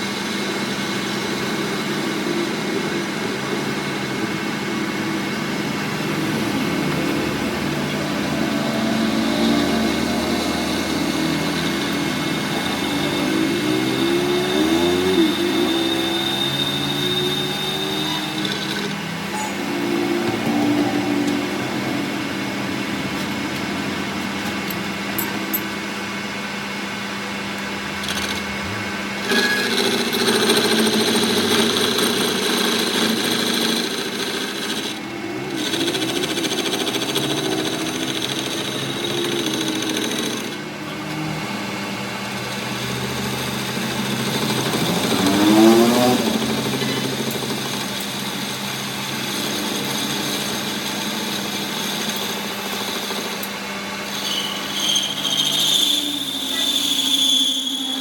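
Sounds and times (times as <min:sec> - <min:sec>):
power tool humming: 0:00.0 - 0:58.0.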